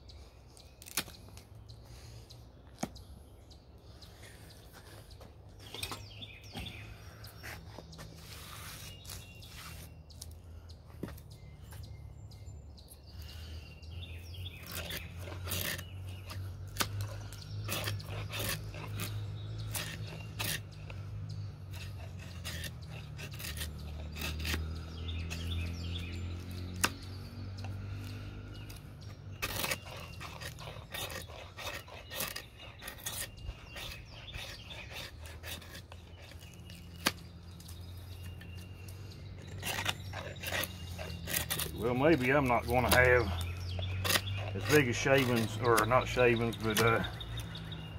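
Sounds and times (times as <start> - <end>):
birds chirping: 0.0 - 47.9
knife scraping wood: 0.5 - 3.3, 3.9 - 11.9, 12.8 - 47.9.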